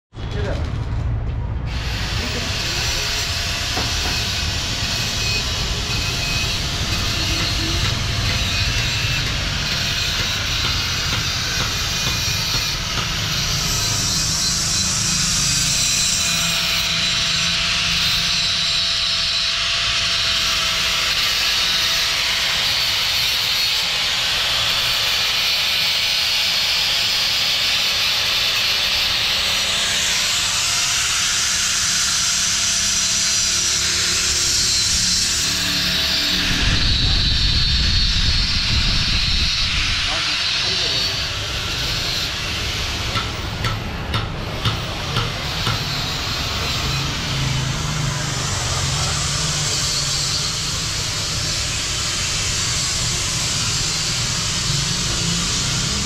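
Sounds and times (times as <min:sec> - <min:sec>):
angle grinder grinding steel: 0:01.7 - 0:56.0.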